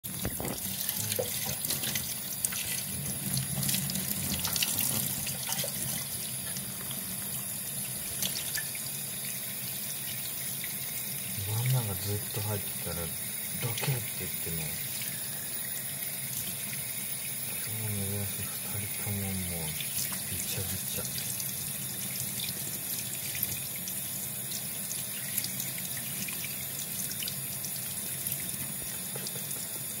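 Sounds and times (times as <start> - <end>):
tap water running into a sink: 0.1 - 30.0.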